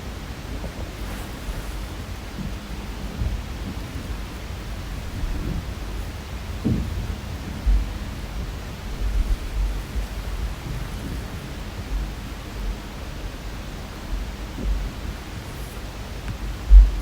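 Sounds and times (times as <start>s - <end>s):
steady hiss: 0.0s - 17.0s
dull low thuds: 0.5s - 17.0s.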